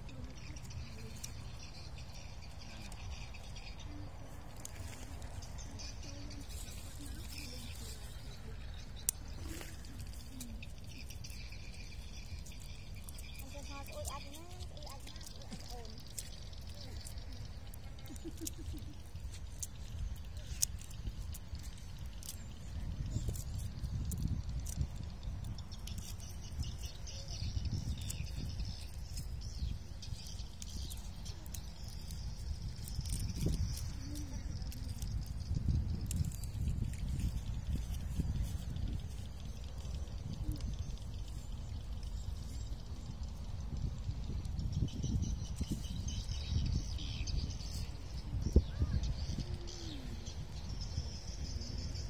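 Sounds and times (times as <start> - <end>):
faint chirps: 0.0 - 52.0
low outdoor rumble: 0.0 - 52.0.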